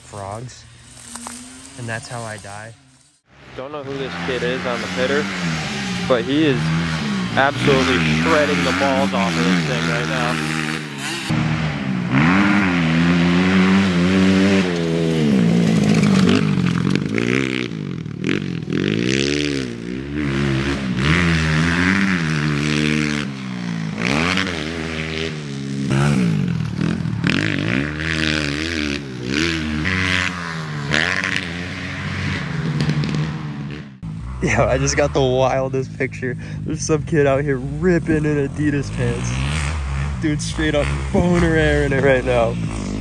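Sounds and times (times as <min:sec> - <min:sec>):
pit bike engine revving: 0:00.0 - 0:43.0.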